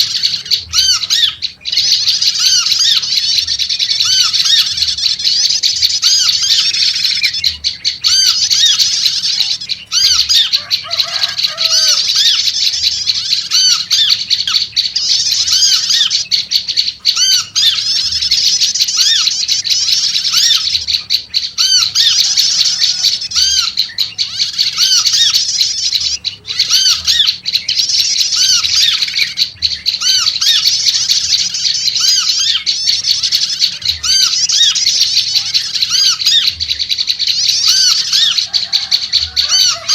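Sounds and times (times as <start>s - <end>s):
bird chattering high chirps: 0.0s - 39.9s
lower looping bird note: 0.0s - 39.9s.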